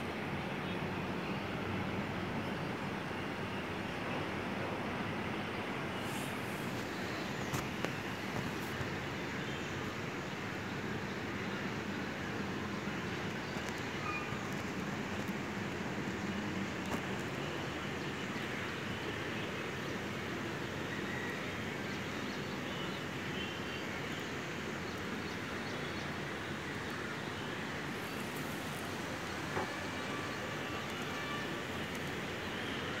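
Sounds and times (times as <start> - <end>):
distant city traffic hum: 0.0 - 33.0.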